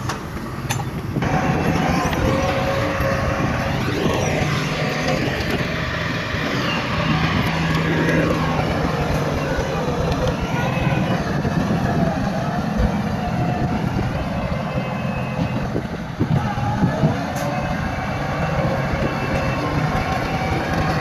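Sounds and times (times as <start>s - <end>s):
diesel machinery engine drone: 0.0s - 21.0s
high-pitched squeals: 1.2s - 21.0s.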